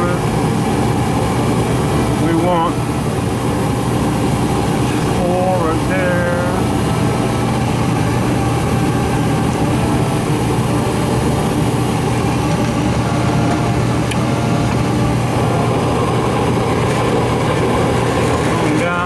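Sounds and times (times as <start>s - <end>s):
gas furnace running: 0.0s - 19.0s.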